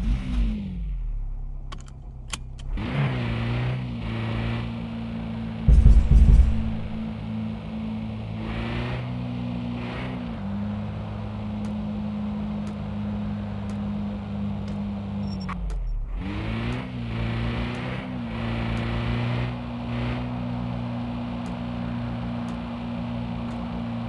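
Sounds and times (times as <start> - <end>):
road vehicle motor hum: 0.0 - 24.0.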